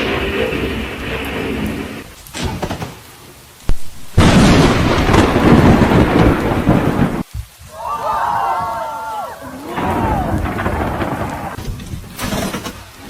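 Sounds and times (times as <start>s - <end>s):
loud thunder burst: 0.0s - 7.3s, 9.7s - 13.0s
sharp crack of thunder: 0.0s - 7.3s, 9.7s - 13.0s
rain: 0.0s - 13.0s.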